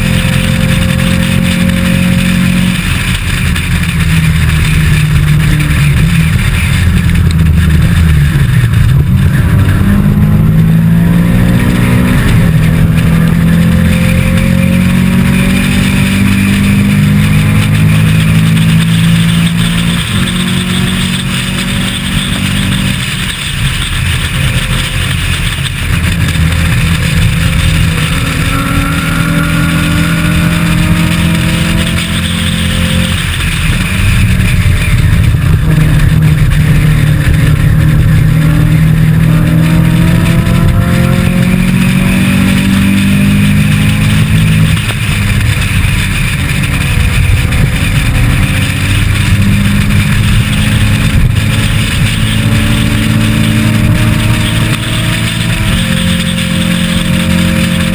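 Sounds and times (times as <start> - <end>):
racing car engine revving: 0.0 - 57.9
wind and road noise: 0.0 - 57.9.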